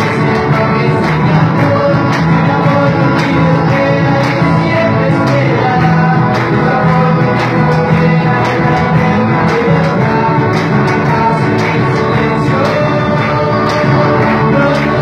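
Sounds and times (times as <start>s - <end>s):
band music: 0.0s - 15.0s
person singing: 0.0s - 15.0s.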